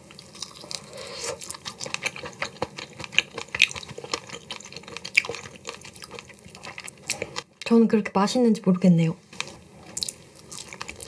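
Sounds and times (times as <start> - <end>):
wet chewing: 0.0 - 7.5, 9.3 - 11.0.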